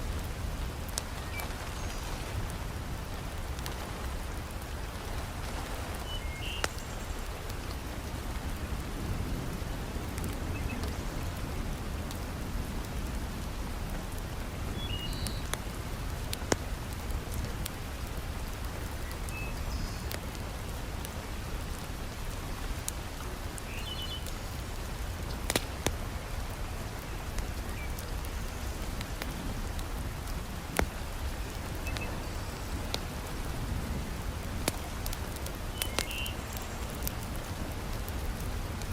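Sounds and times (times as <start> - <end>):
heavy rain: 0.0 - 38.9
wood fire crackling: 0.0 - 38.9.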